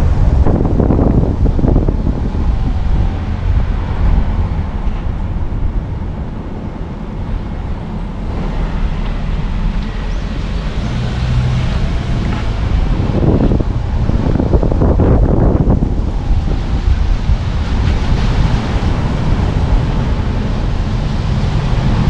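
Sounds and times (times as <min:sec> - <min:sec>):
car road and engine rumble: 0:00.0 - 0:22.0
wind on microphone: 0:00.0 - 0:22.0.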